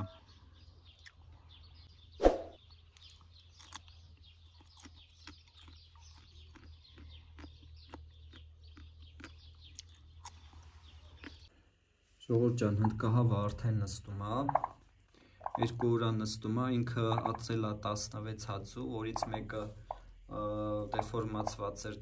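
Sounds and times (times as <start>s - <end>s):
birds chirping: 0.0s - 11.7s, 12.3s - 22.0s.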